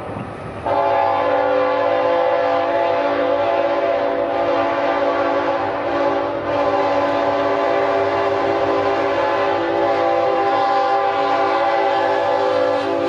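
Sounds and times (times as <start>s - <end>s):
diesel locomotive rumble: 0.0s - 13.0s
train air horn chord: 0.6s - 13.0s.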